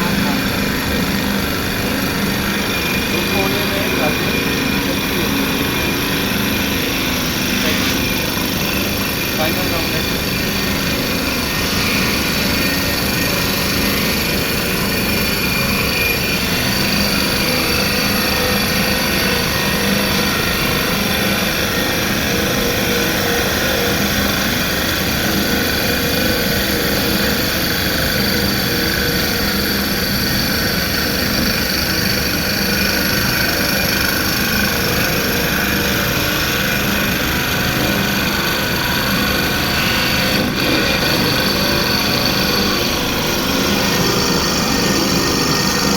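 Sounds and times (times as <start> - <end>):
lathe running: 0.0 - 45.9
steady machine whine: 0.0 - 45.9.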